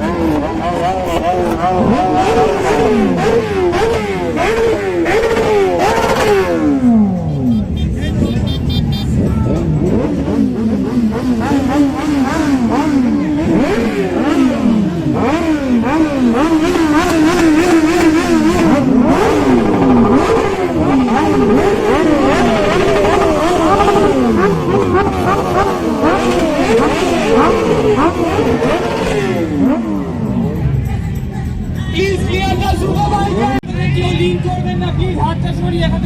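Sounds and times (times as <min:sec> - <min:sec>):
motorbike engines revving: 0:00.0 - 0:36.0.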